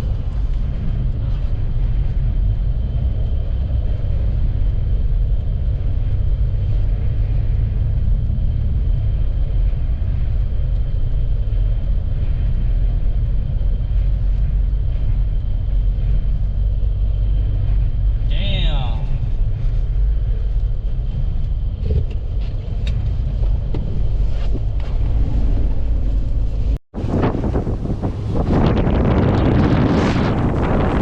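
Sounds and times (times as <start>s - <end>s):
vehicle engine and tyre noise: 0.0s - 31.0s
wind hiss: 0.0s - 31.0s.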